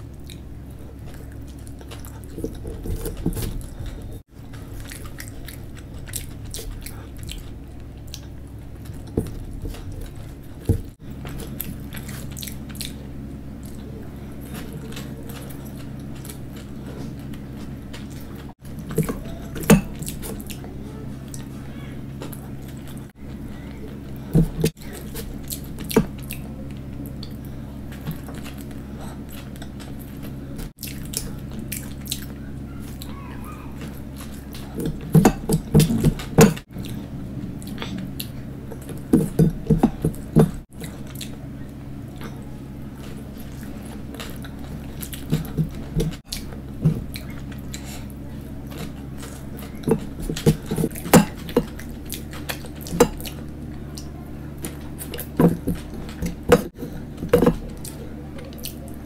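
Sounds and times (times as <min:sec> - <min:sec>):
chewing: 0:00.0 - 0:59.0
steady low hum: 0:00.0 - 0:59.0.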